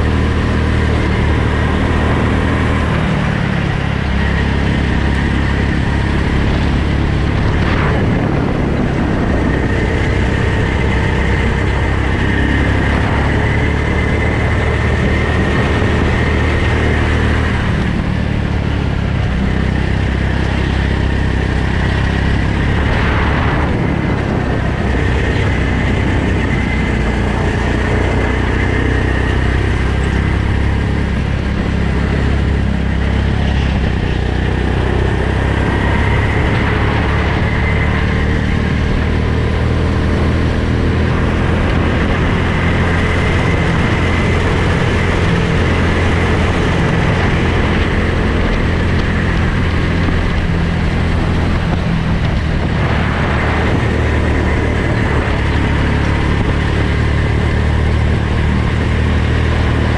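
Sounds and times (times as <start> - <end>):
go-kart engine running: 0.0 - 59.9
wind noise: 0.0 - 59.9.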